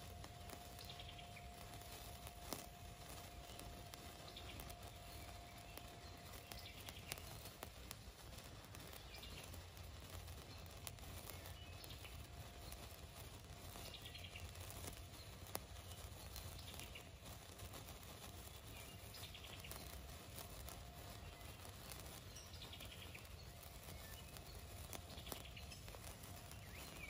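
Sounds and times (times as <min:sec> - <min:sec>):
bird singing: 0:00.0 - 0:17.4, 0:18.1 - 0:27.0
sparkler crackling: 0:00.0 - 0:27.0.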